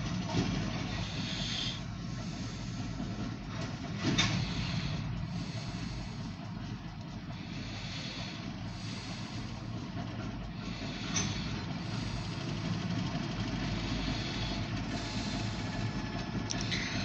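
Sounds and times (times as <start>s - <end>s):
locomotive idling rumble: 0.0s - 17.0s.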